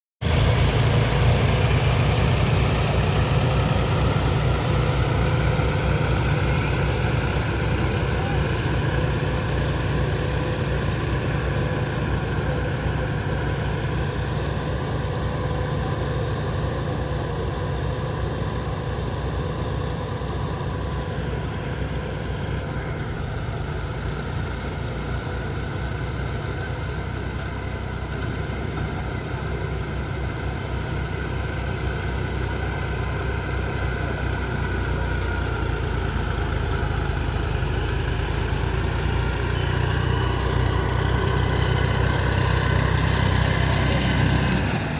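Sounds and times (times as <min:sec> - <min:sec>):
tractor diesel engine droning: 0:00.2 - 0:44.9.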